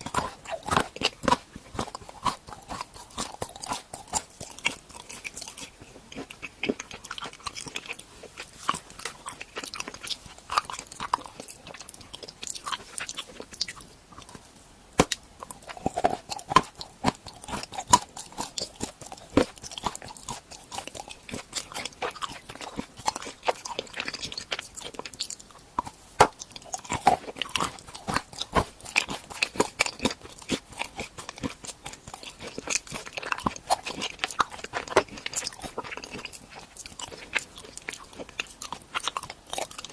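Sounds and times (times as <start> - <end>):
crunching and chewing candy: 0.0 - 39.9.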